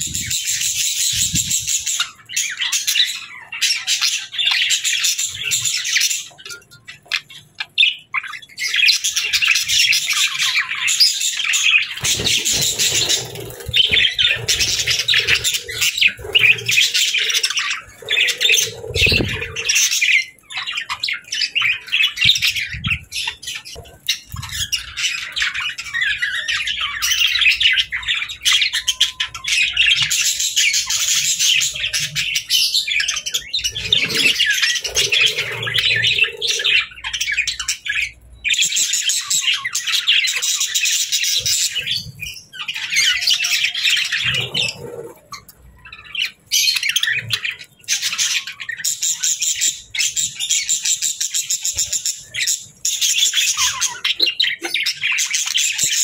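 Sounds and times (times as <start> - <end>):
budgerigars chattering: 7.0 - 56.0.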